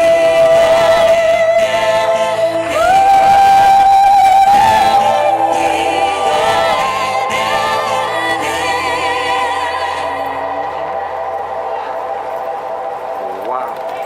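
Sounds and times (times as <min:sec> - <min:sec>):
layered wordless sung notes: 0:00.0 - 0:14.0.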